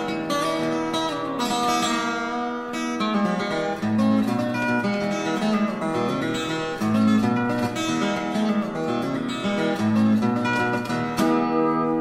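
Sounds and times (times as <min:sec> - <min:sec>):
plucked acoustic guitar melody: 0:00.0 - 0:12.0.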